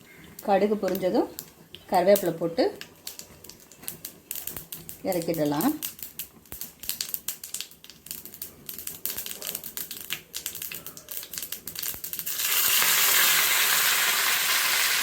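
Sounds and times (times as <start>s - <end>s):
leaves sizzling in oil: 0.0s - 15.0s
seeds popping in hot oil: 0.0s - 15.0s.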